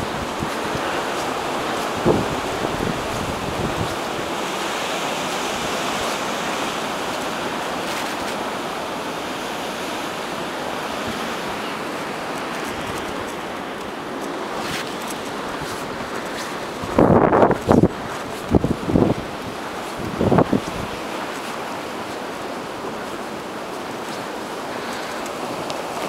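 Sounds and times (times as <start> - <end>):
blizzard wind blowing snow: 0.0 - 26.0.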